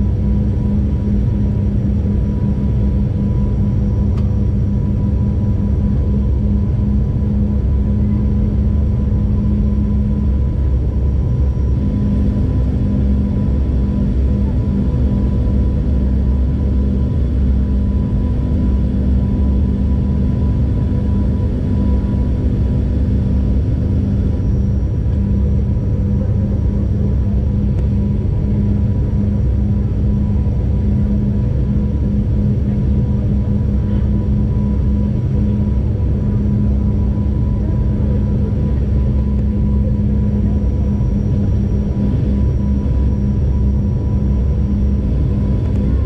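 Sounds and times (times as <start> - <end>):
turboprop engine drone in cabin: 0.0 - 46.0.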